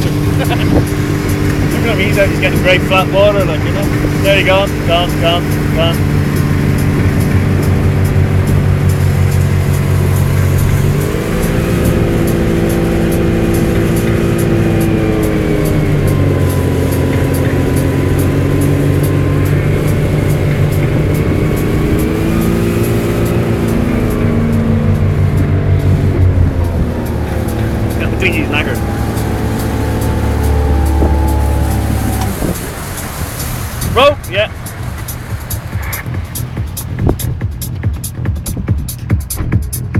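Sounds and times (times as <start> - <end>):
boat engine running: 0.0 - 39.9
wind and water rushing: 0.0 - 39.9.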